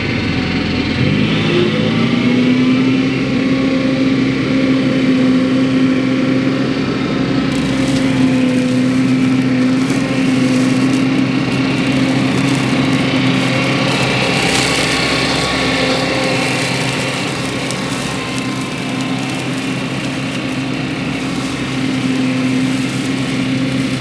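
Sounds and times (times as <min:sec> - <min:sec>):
engine running at high speed: 0:00.0 - 0:24.0.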